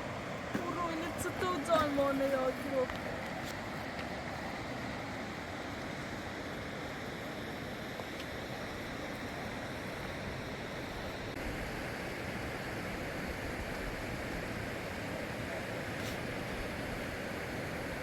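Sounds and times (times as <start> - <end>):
rushing floodwater: 0.0 - 18.0.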